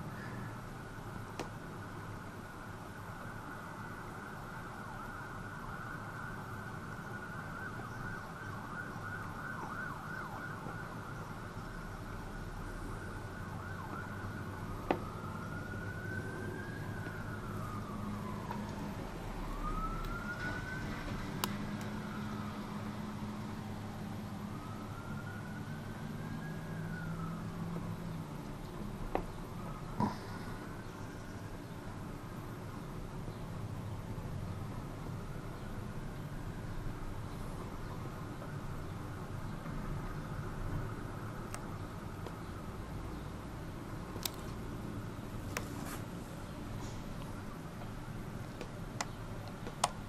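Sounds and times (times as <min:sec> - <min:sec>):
emergency vehicle siren: 0:00.0 - 0:44.0.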